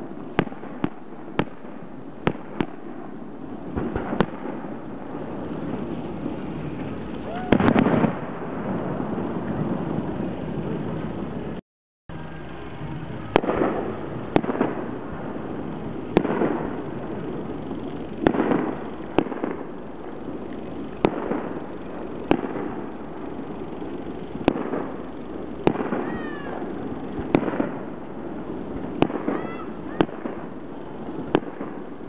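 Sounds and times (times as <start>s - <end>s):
firework shells bursting: 0.0s - 11.0s, 13.2s - 32.0s
rolling echo: 3.8s - 32.0s.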